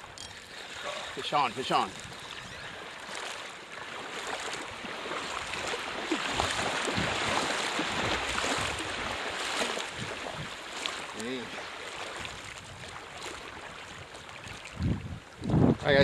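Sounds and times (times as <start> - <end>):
small waves splashing on shore: 0.0 - 15.6.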